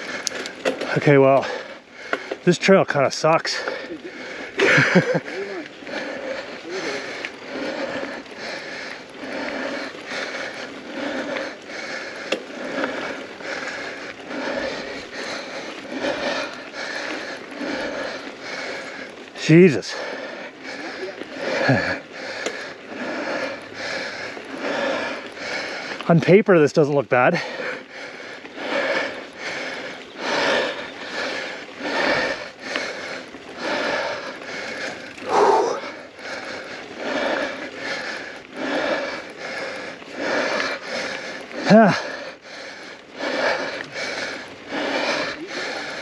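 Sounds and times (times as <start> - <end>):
bike rolling over dirt: 0.0 - 46.0
hard rhythmic breathing: 0.0 - 46.0.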